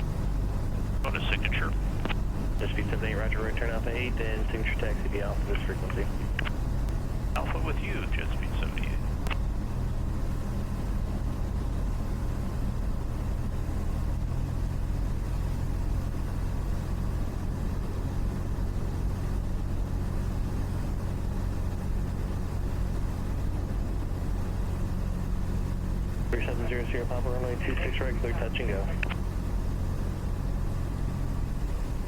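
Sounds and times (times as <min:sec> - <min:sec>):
aircraft propeller engine drone: 0:00.0 - 0:32.0.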